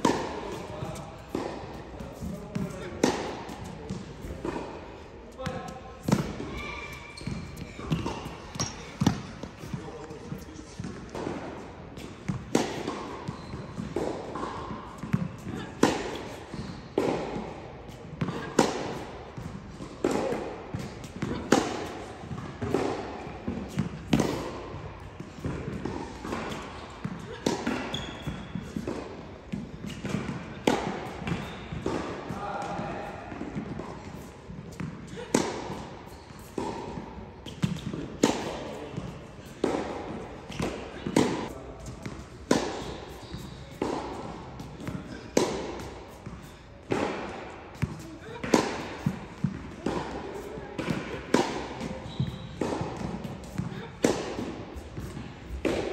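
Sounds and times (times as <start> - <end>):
racket hitting tennis ball: 0.0 - 55.9
tennis ball bouncing: 0.0 - 55.9.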